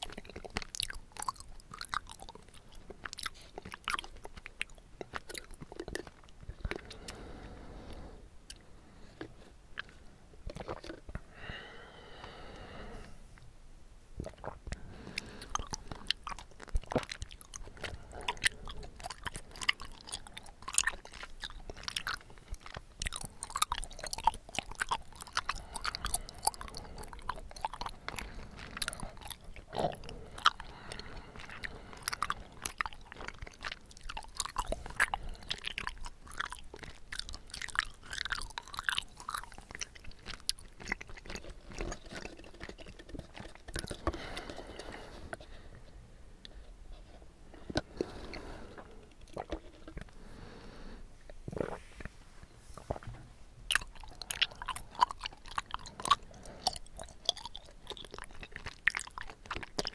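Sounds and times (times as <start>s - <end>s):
wet chewing clicks and smacks: 0.0s - 7.2s, 9.2s - 11.2s, 14.2s - 45.4s, 47.6s - 50.2s, 53.6s - 59.9s.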